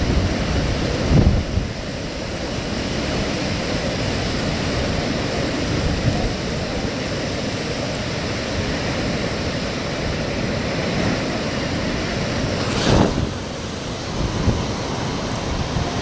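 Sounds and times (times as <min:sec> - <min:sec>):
hurricane winds blowing: 0:00.0 - 0:16.0.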